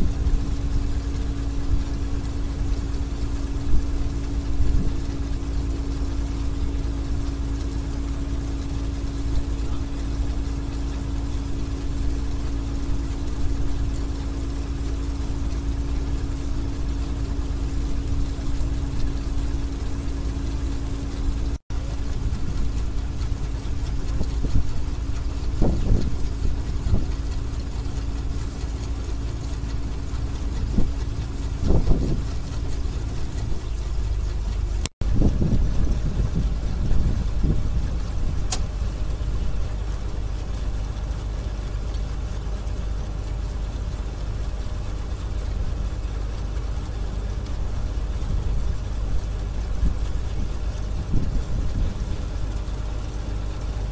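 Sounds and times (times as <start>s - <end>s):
harvester engine and auger running: 0.0s - 53.9s.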